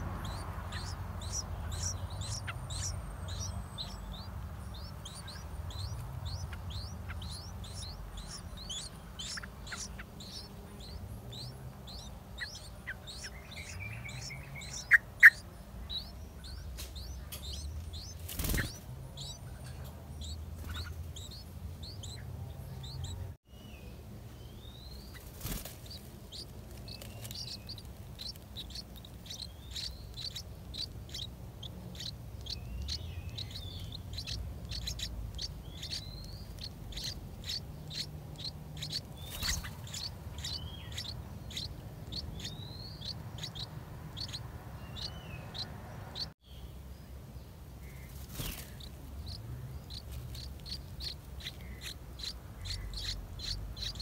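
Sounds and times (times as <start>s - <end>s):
sharp bird calls: 0.0s - 23.8s, 24.5s - 46.7s, 47.8s - 54.0s
nestlings chirping: 0.0s - 46.7s, 47.8s - 54.0s
low background rumble: 0.0s - 54.0s.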